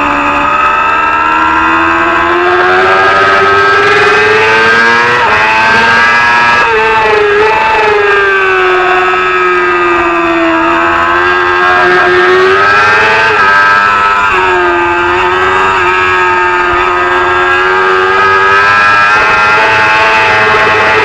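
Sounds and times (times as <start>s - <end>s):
race motorcycle engine revving: 0.0s - 21.0s.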